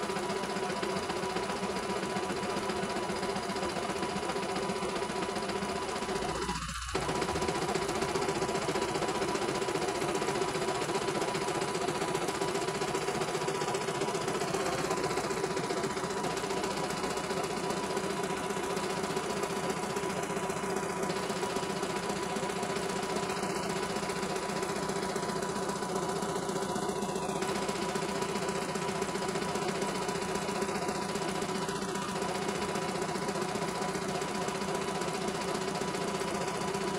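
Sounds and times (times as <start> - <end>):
embroidery machine stitching: 0.0 - 36.9.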